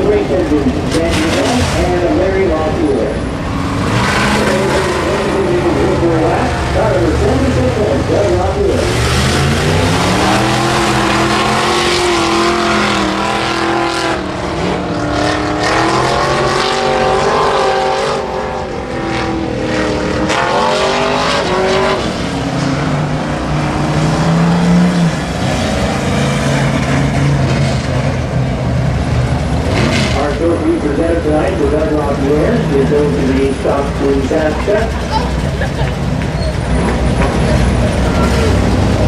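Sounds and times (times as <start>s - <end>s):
race car engines revving: 0.0s - 39.0s.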